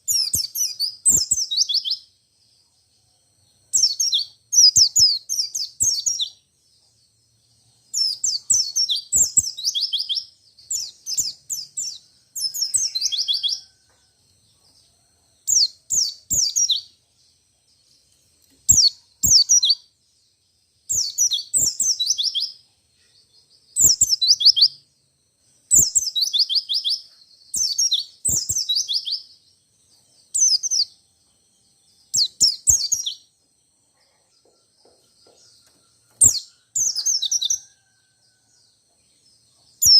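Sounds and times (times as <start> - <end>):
bird twittering chirps: 0.0 - 13.8, 14.8 - 24.9, 25.6 - 38.4, 39.1 - 39.9.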